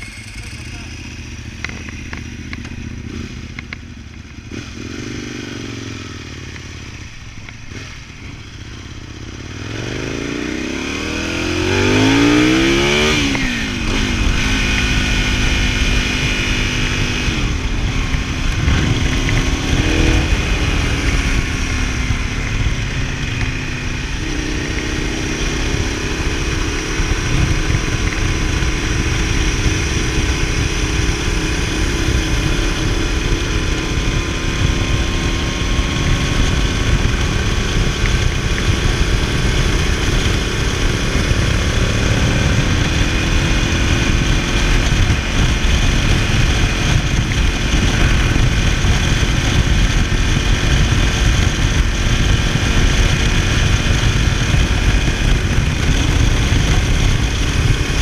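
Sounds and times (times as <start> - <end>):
motorcycle engine: 0.0 - 58.0
wind rushing over microphone: 0.8 - 58.0.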